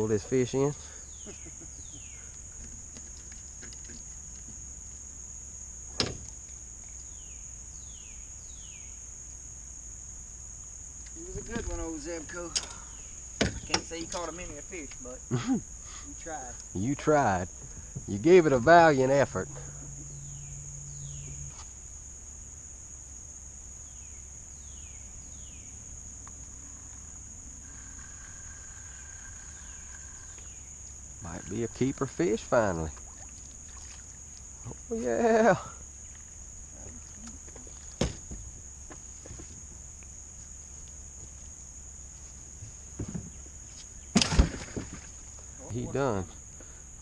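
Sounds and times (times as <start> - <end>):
high-pitched insect drone: 0.0 - 44.1.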